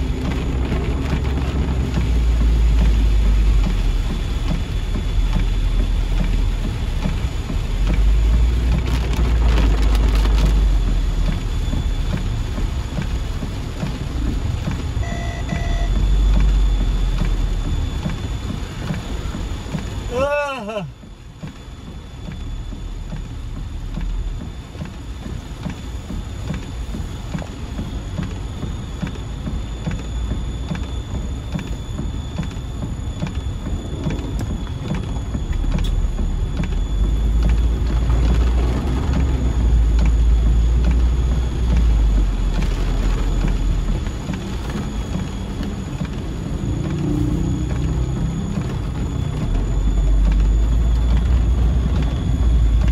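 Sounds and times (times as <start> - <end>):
engine and tyres rumbling: 0.0 - 20.2, 20.9 - 52.9
rain hitting windshield: 0.0 - 52.9.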